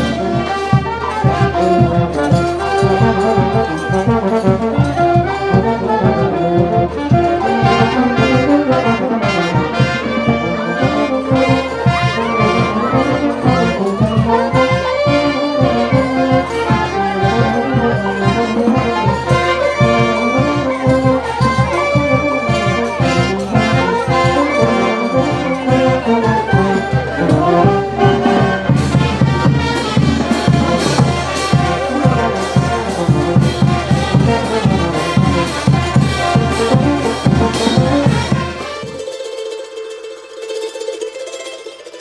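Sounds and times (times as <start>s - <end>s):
percussion beat: 0.0s - 40.0s
brass band playing: 0.0s - 42.0s.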